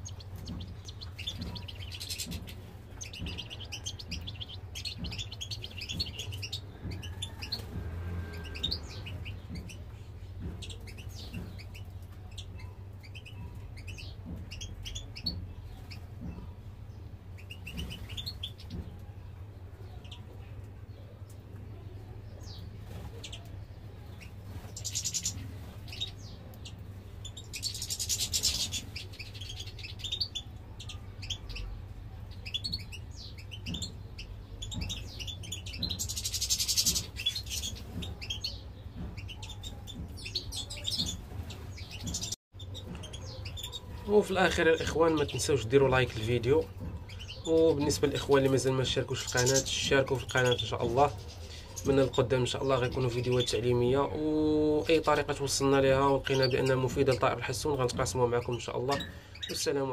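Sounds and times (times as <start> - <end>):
finches twittering: 0.0 - 19.0, 22.3 - 59.9.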